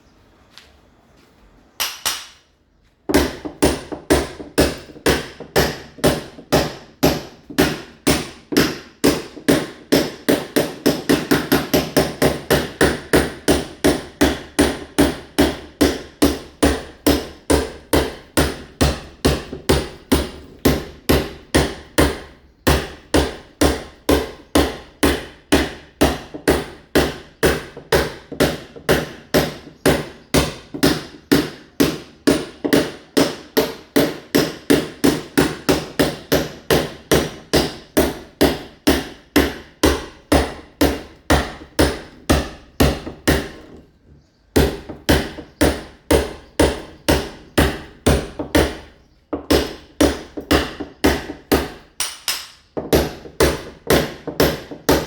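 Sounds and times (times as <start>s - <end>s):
hammer striking masonry wall: 1.8s - 55.0s.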